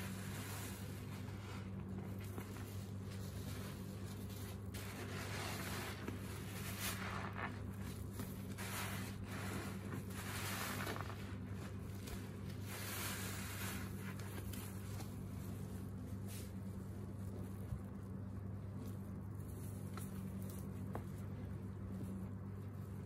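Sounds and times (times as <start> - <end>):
wet squishing of soapy suds: 0.0 - 21.5
faint low hum: 0.0 - 23.0.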